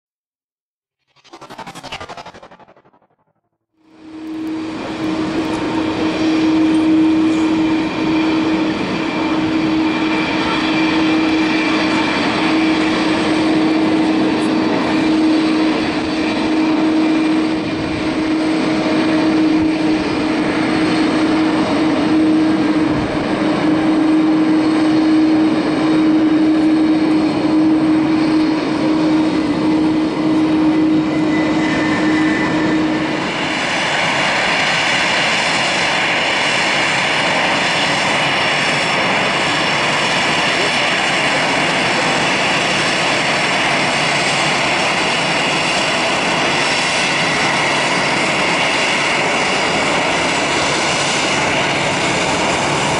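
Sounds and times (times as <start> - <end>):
jet engines droning: 1.0 - 52.9.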